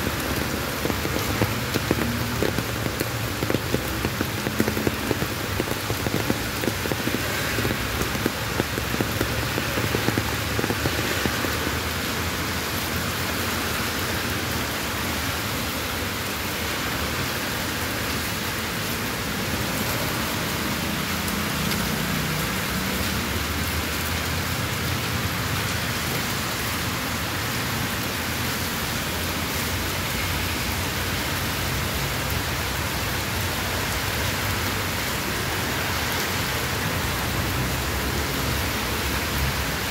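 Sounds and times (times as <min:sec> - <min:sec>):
close raindrop hits: 0:00.0 - 0:39.9
heavy rain on pavement: 0:00.0 - 0:39.9.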